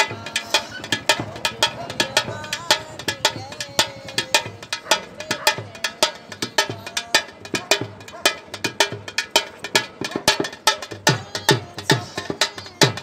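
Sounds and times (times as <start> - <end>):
barrel drum played by hand: 0.0 - 13.0.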